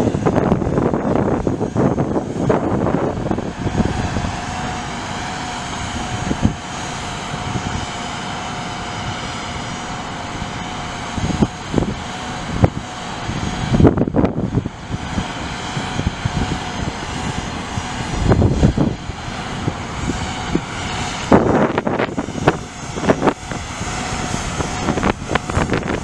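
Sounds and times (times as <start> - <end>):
steady whine: 0.0 - 26.0
truck diesel engine running: 0.0 - 26.0.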